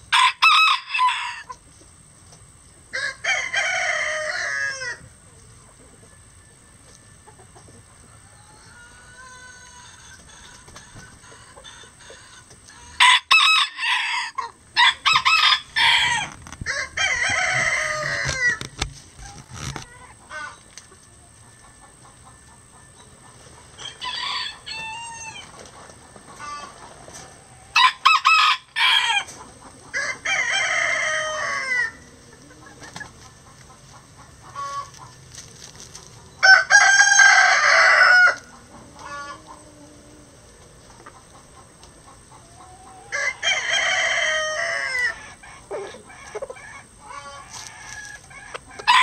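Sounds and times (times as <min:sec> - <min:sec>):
roosters crowing: 0:00.0 - 0:01.6, 0:02.8 - 0:05.2, 0:05.8 - 0:20.6, 0:21.4 - 0:35.1, 0:36.2 - 0:49.0
chicken clucks: 0:01.4 - 0:13.0, 0:14.1 - 0:27.8, 0:29.1 - 0:49.0.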